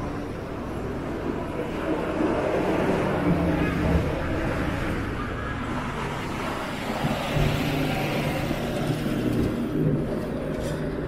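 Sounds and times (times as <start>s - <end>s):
traffic passing: 0.0s - 11.0s.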